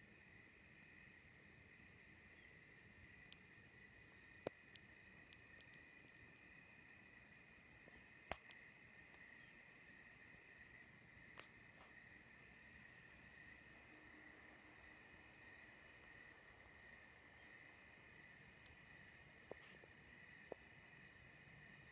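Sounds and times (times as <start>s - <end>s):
night insects trilling: 0.0s - 21.9s.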